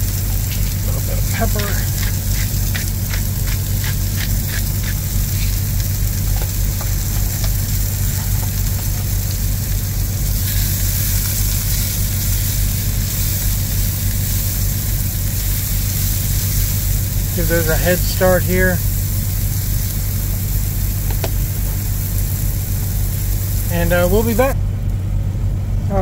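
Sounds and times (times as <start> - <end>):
mushrooms sizzling in skillet: 0.0 - 24.6
steady low hum: 0.0 - 26.0.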